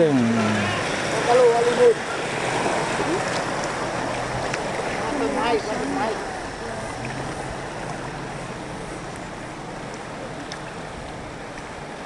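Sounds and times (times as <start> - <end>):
faint splashes: 0.0 - 12.0
river rushing: 0.0 - 12.0.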